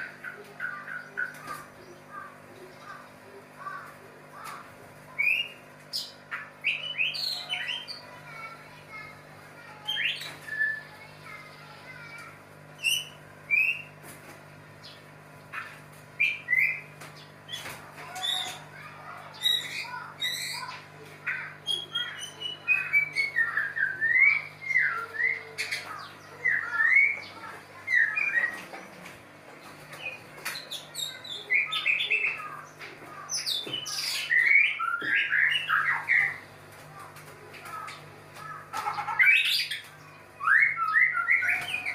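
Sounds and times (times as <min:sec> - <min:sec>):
steady low hum: 0:00.0 - 0:41.9
bird singing: 0:05.1 - 0:12.1, 0:12.8 - 0:14.0, 0:14.8 - 0:29.0, 0:29.6 - 0:36.5, 0:37.6 - 0:41.9.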